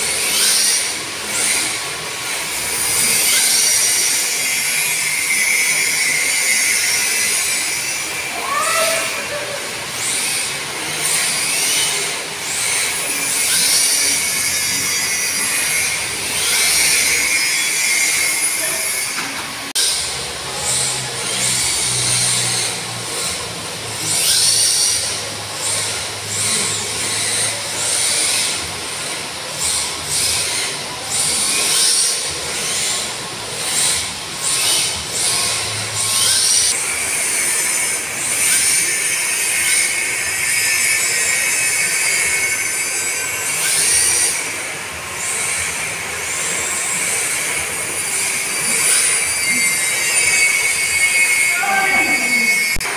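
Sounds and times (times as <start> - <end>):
rc car electric motors whining: 0.0 - 52.9.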